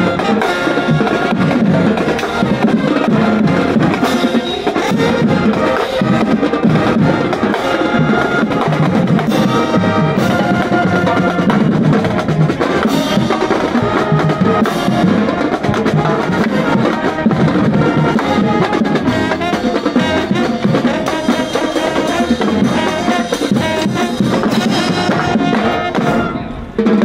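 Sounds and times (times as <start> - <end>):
marching band playing: 0.0 - 27.0.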